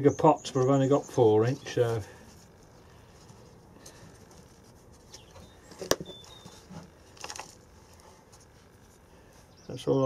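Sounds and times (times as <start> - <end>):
hands working compost into pot: 0.0 - 10.0
faint rustling: 1.4 - 9.8.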